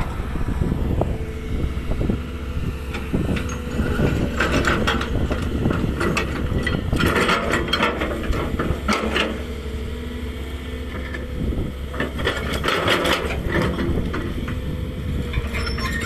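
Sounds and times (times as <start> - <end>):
gravel rattling and scraping: 0.0 - 9.9, 10.8 - 16.0
diesel engine whining under load: 0.0 - 16.0.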